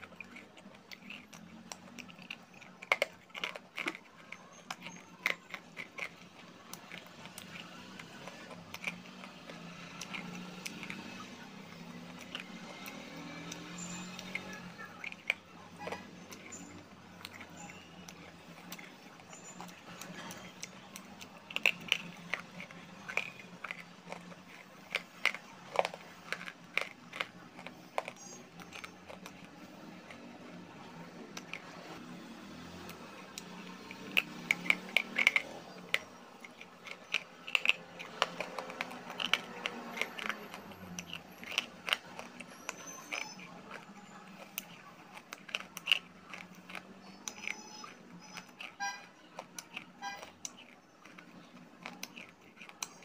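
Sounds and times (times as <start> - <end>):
clay crunching in mouth: 0.0 - 53.0.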